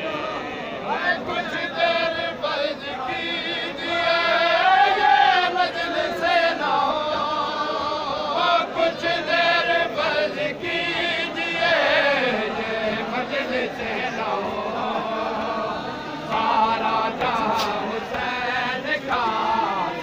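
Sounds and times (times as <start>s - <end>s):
men chanting a mourning lament: 0.0s - 20.0s.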